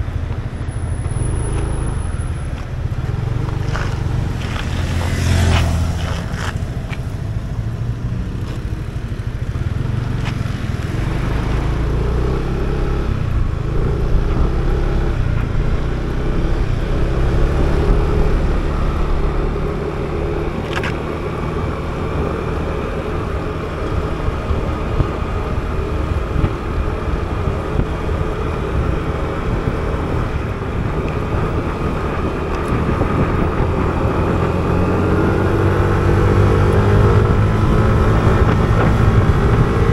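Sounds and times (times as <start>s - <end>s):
wind noise: 0.0s - 39.9s
scooter engine running: 0.1s - 35.1s.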